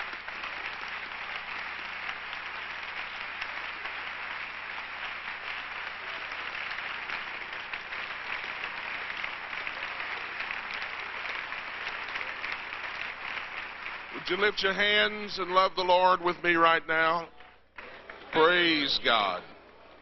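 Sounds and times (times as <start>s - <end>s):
congregation applauding: 0.0s - 17.2s.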